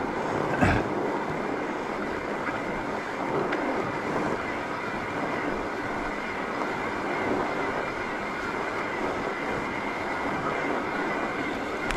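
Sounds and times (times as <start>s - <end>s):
bike tyres rolling on snow: 0.0s - 11.9s.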